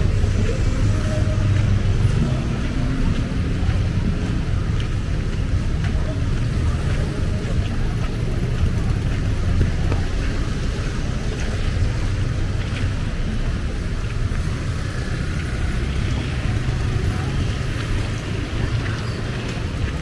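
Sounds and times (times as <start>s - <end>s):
low street rumble: 0.0s - 20.0s.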